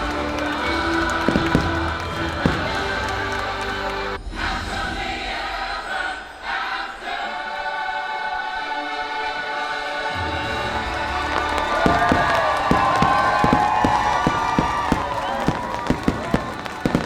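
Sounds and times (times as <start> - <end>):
soundtrack music with choir: 0.0 - 17.0.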